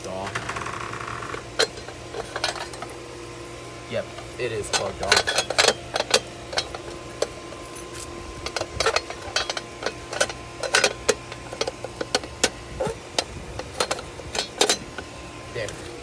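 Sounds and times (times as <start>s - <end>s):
handling clicks and knocks: 0.0s - 3.0s, 4.0s - 16.0s
steady electrical hum: 0.0s - 16.0s.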